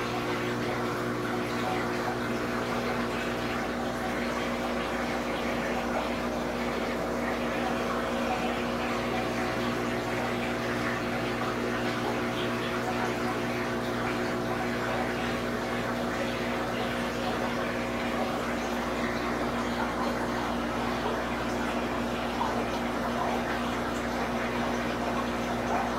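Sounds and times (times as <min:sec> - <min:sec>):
filter pump humming: 0:00.0 - 0:25.9
water splashing and trickling: 0:00.0 - 0:25.9.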